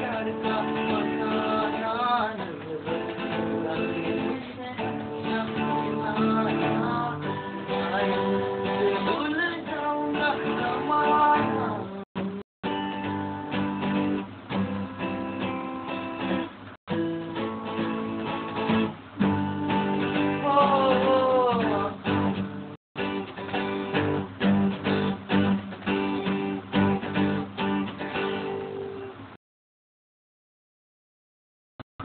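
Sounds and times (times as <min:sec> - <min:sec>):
acoustic guitar strumming chords: 0:00.0 - 0:29.4.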